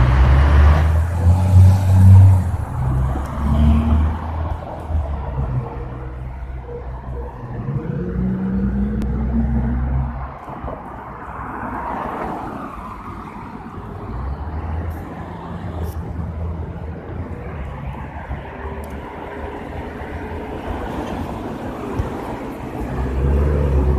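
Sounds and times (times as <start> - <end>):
car passing: 0.0 - 23.9.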